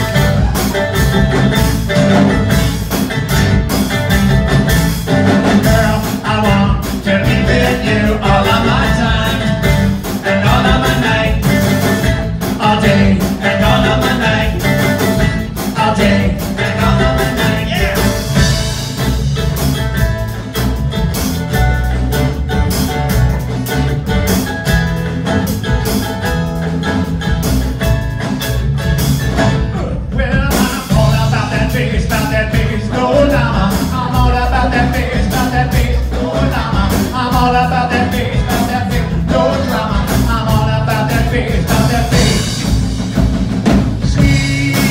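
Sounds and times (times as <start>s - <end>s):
live band playing: 0.0s - 44.9s.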